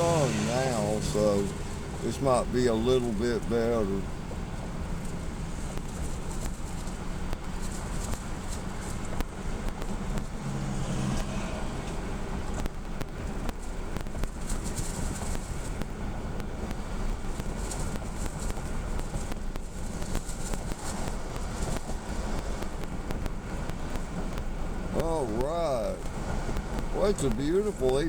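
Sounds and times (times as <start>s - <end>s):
car engine and tyre noise inside: 0.0s - 28.0s.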